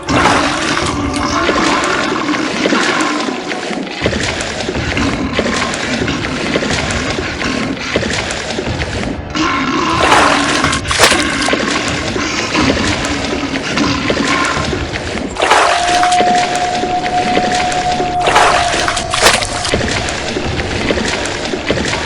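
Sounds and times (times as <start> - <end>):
water rushing and splashing: 0.0 - 22.0.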